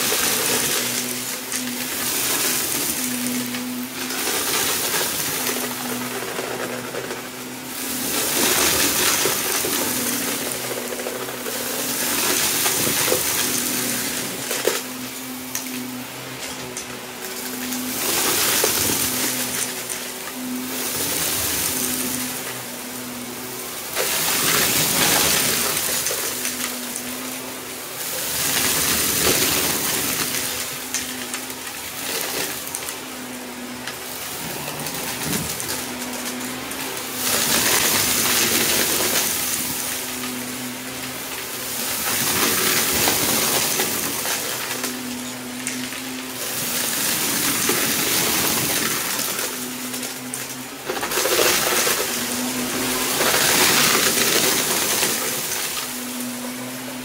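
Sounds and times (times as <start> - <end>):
plastic debris rattling: 0.0 - 57.0
vacuum cleaner motor humming: 0.0 - 57.0.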